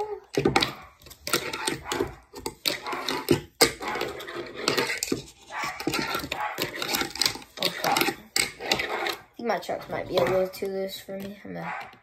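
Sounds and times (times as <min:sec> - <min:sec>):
fingerboard wheels rattling: 0:00.3 - 0:12.0.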